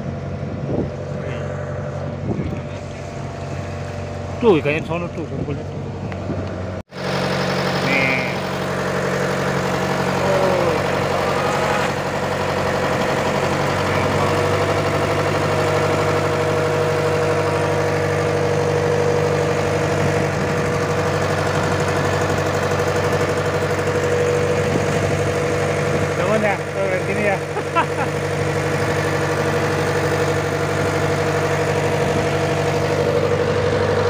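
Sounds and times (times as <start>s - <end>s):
boat engine idling: 0.0s - 34.0s
high engine whine: 0.0s - 34.0s.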